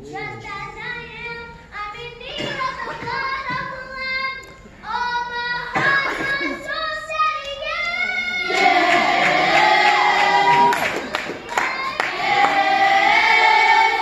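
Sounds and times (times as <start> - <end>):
children's choir singing gospel: 0.0 - 14.0.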